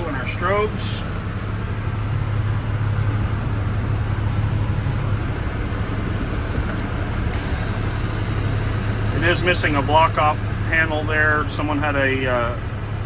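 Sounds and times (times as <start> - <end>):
air conditioning blowing: 0.0 - 13.0
diesel engine idling hum: 0.0 - 13.0.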